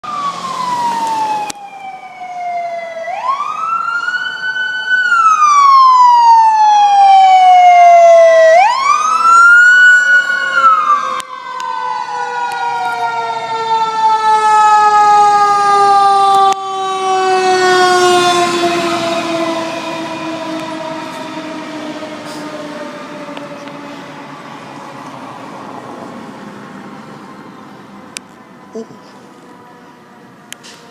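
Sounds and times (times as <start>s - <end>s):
lower siren tone: 0.0s - 30.6s
fire engine siren wailing: 0.0s - 30.9s.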